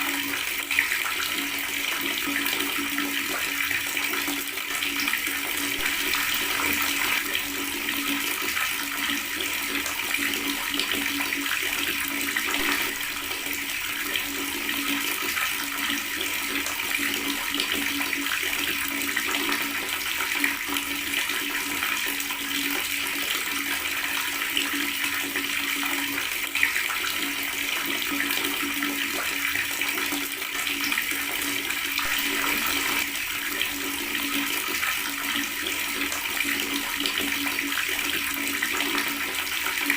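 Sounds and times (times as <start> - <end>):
tap water running and gurgling: 0.0 - 39.9.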